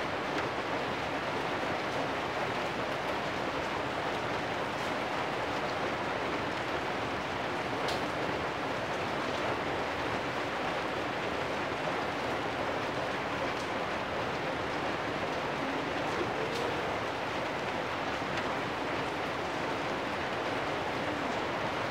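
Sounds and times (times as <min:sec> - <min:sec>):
rain on metal roofs: 0:00.0 - 0:21.9.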